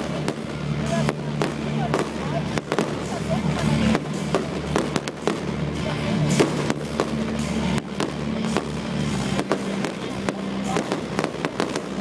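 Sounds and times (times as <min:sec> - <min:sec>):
firework crackle: 0:00.0 - 0:12.0
music playing: 0:00.0 - 0:12.0.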